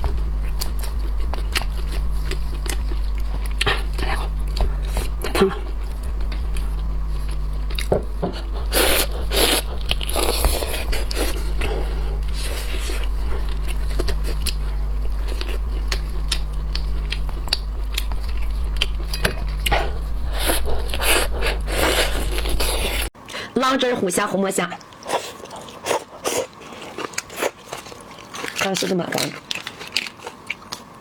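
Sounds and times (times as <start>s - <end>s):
person chewing seafood: 0.0s - 23.1s, 24.8s - 31.0s
steady low hum: 0.0s - 26.0s.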